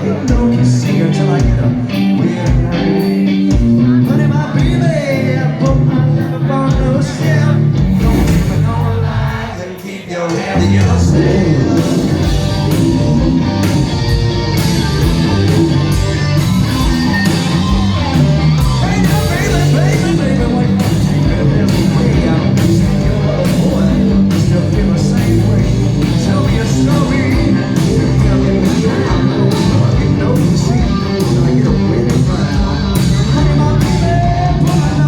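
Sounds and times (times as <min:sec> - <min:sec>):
electric guitar: 0:00.0 - 0:09.6, 0:10.4 - 0:35.0.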